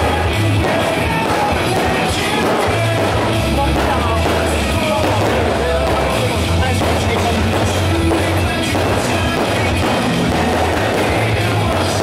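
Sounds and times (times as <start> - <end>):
loud rock music with singing: 0.0 - 12.0.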